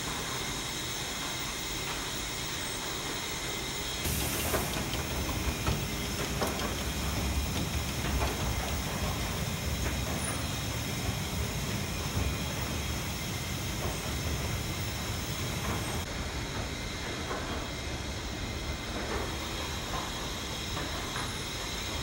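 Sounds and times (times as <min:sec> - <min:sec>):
mill machinery hiss: 0:00.0 - 0:22.0
machinery clanks and knocks: 0:04.0 - 0:22.0.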